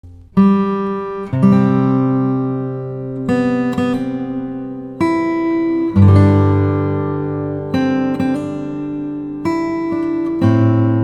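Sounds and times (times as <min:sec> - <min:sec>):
acoustic guitar chords ringing: 0:00.0 - 0:11.0.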